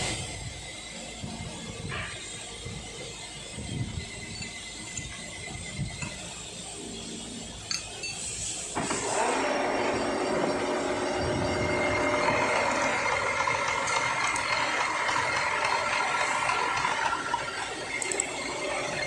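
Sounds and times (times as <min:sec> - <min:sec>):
machine rattle and whine: 0:00.0 - 0:19.0.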